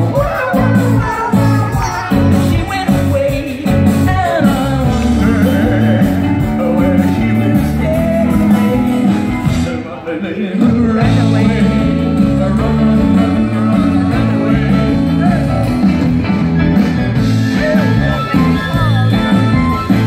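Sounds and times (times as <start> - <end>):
lead singer singing: 0.0 - 16.1
guitar: 0.0 - 20.0
live rock and roll band: 0.0 - 20.0.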